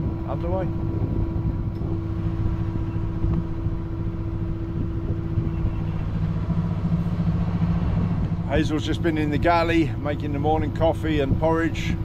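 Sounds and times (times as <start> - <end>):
boat engine droning: 0.0 - 12.0
high steady hum: 0.0 - 12.0.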